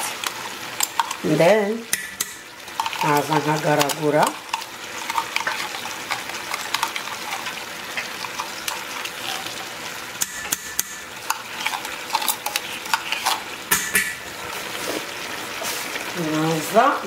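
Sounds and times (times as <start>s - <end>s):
spoon scraping and knocking pan: 0.0s - 15.8s
meat sizzling in a pan: 0.0s - 17.0s.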